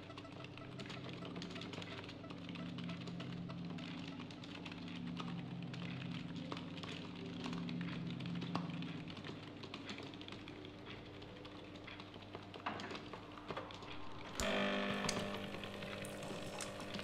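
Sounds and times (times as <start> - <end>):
low office hum: 0.0 - 17.0.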